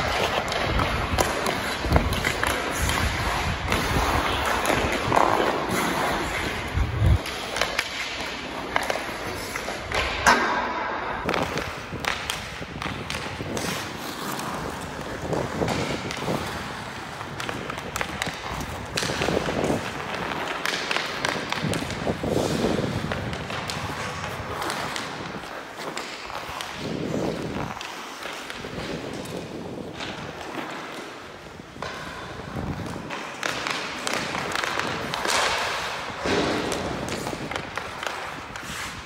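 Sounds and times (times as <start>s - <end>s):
hockey stick knocking puck: 0.0s - 39.0s
ice skate blades scraping: 0.0s - 39.0s.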